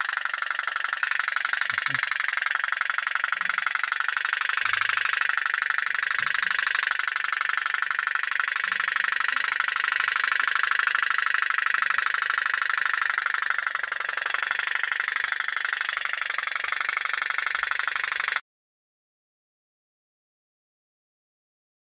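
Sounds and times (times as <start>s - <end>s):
small steam engine popping: 0.0s - 18.4s.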